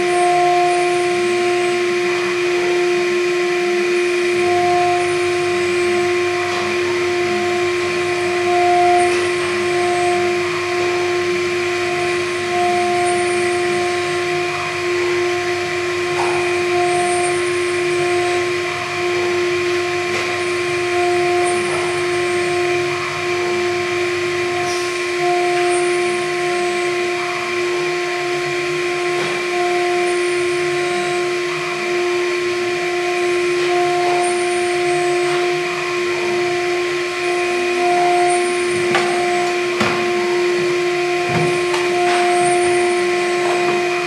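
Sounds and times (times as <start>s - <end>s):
higher tone: 0.0s - 44.0s
milling machine spindle whining: 0.0s - 44.0s.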